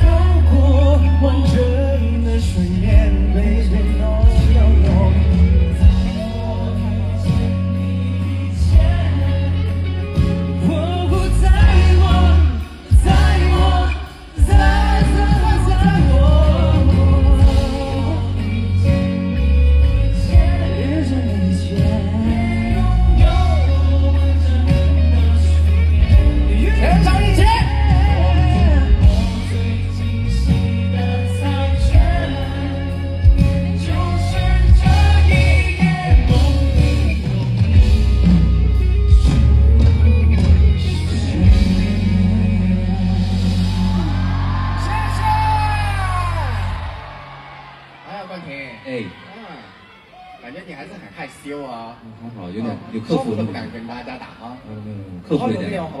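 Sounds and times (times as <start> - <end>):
heavy bass line: 0.0 - 47.4
person singing: 0.0 - 47.4
pop-rock band playing: 0.0 - 51.4.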